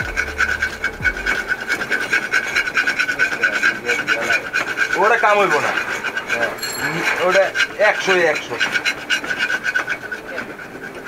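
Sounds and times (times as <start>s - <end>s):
knife scraping metal part: 0.0s - 11.0s.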